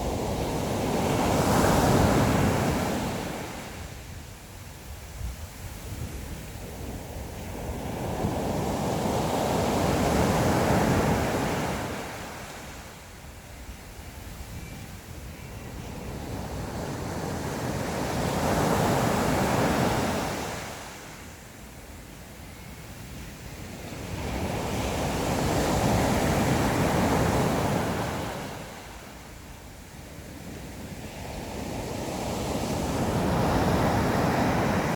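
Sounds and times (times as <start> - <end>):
sea waves washing ashore: 0.0 - 13.4, 14.0 - 21.8, 22.8 - 34.9
wind rumble on microphone: 0.0 - 34.9.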